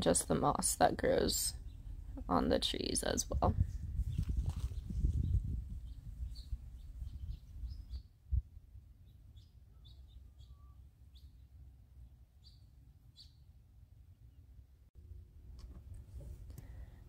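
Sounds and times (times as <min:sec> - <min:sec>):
small birds chirping: 0:00.8 - 0:14.5.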